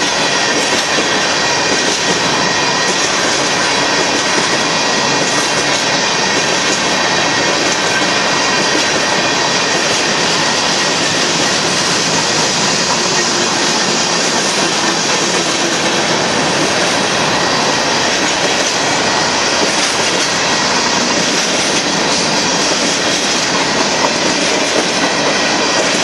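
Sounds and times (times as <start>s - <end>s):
freight train wheels on rails: 0.0s - 26.0s.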